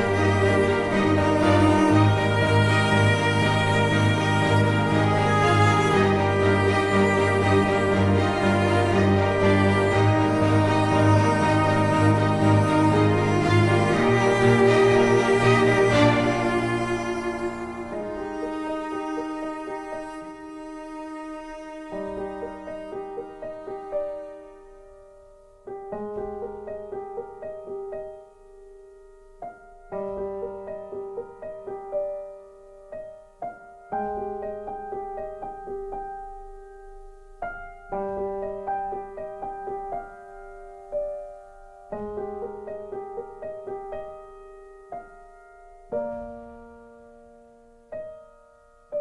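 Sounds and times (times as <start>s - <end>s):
slow calm piano music: 0.0s - 49.0s.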